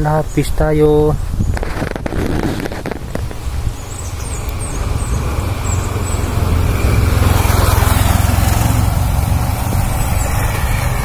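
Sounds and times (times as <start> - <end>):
wind rumbling on microphone: 0.0 - 11.0
motorcycle tyre noise: 1.2 - 11.0.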